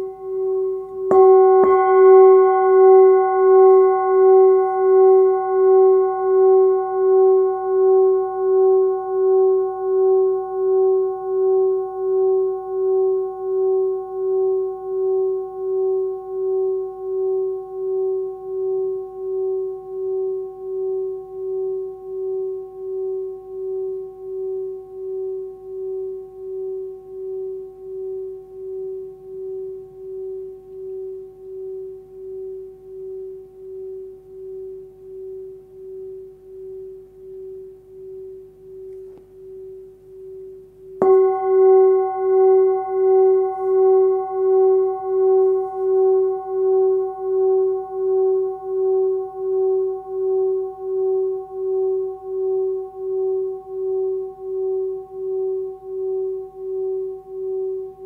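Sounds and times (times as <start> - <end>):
singing bowl ringing: 0.0 - 58.0.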